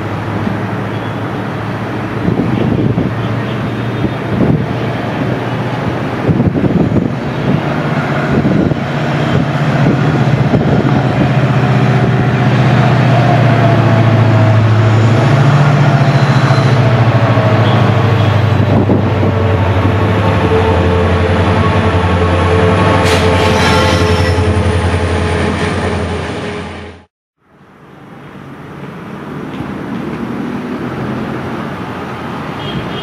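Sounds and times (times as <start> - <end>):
diesel locomotive engine droning: 0.0 - 33.0.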